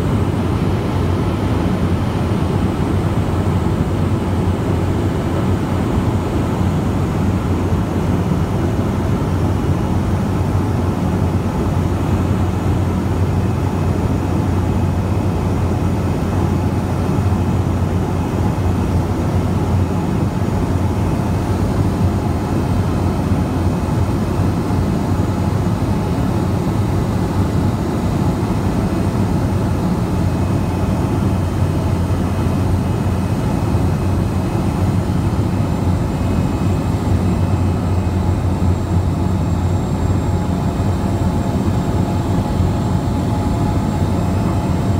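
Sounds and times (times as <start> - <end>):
propeller engine droning: 0.0 - 44.9.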